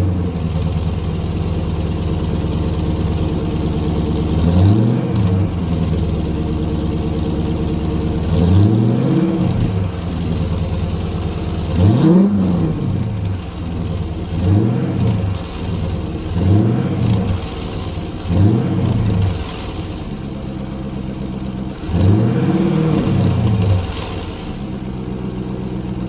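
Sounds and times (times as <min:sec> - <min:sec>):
vee eight engine revving: 0:00.0 - 0:20.3, 0:21.4 - 0:26.0
engine idling: 0:00.0 - 0:26.0.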